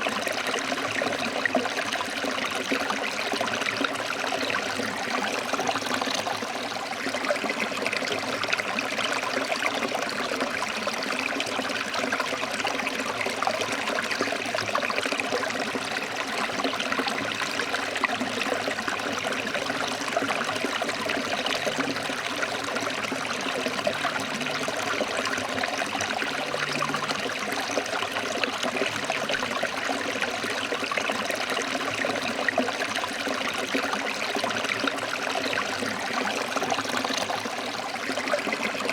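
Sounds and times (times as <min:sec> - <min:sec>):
stream water splashing over rocks: 0:00.0 - 0:38.9.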